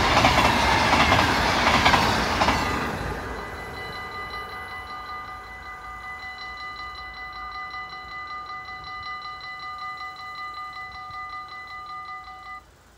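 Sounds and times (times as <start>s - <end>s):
level crossing warning bell: 2.4s - 12.9s.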